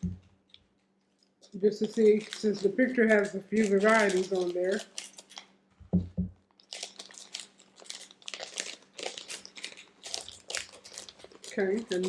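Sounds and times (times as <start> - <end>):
snack wrapper crinkling: 0.0 - 5.7, 6.4 - 12.0.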